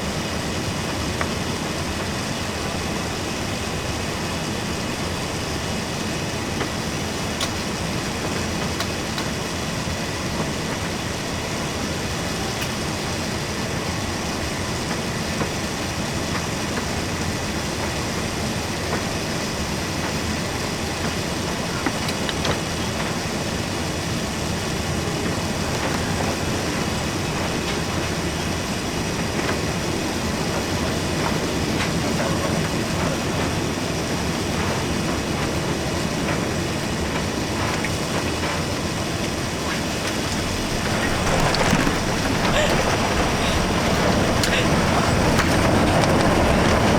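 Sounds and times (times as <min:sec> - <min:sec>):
aircraft rattling on ground: 0:00.0 - 0:46.9
jet engines rumbling in cabin: 0:00.0 - 0:46.9.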